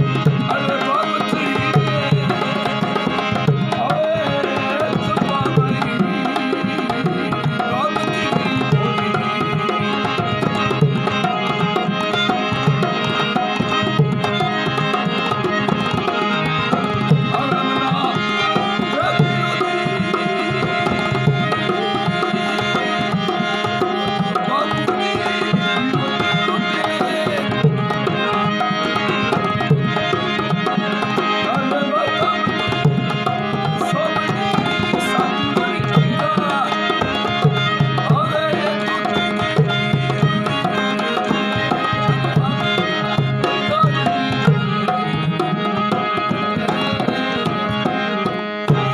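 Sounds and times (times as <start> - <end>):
hand drum rhythm: 0.0 - 48.9
sustained melodic accompaniment: 0.0 - 48.9.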